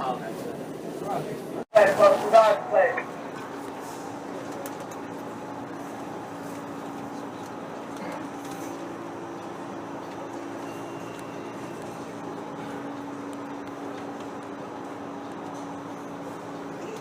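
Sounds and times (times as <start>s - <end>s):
subway car hum and rumble: 0.0s - 17.0s.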